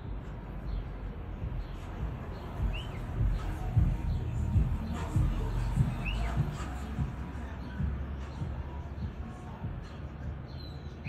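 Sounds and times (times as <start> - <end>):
bird chirp: 0.0 - 11.0
low rumbling and buffeting: 0.0 - 11.0.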